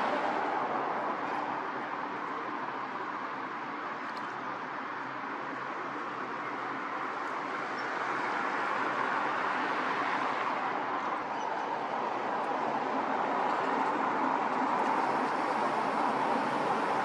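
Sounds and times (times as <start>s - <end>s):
steady outdoor rushing noise: 0.0s - 17.0s.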